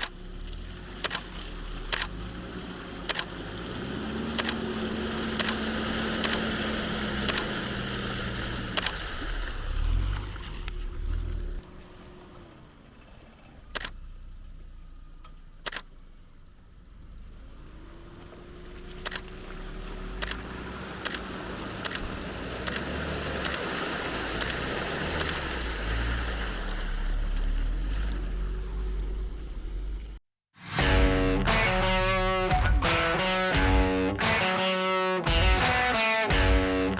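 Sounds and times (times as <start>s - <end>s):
off-road vehicle engine rumble: 0.0s - 30.2s, 30.8s - 36.9s.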